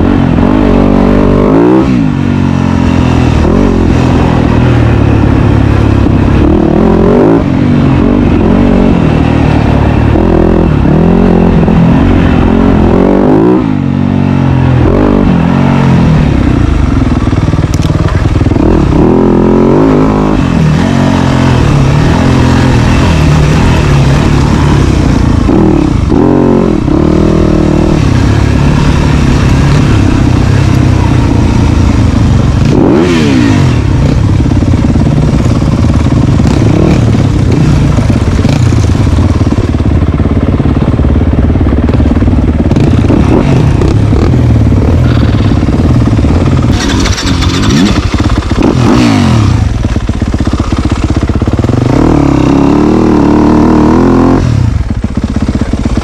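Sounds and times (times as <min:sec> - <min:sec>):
dirt bike engine revving: 0:00.0 - 0:40.1, 0:41.6 - 0:56.0.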